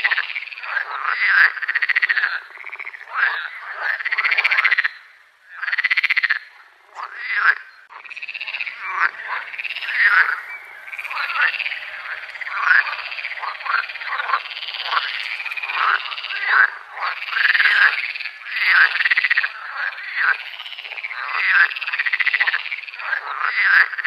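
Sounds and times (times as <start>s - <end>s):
frogs croaking: 0.0s - 24.0s
frogs trilling: 0.0s - 24.0s.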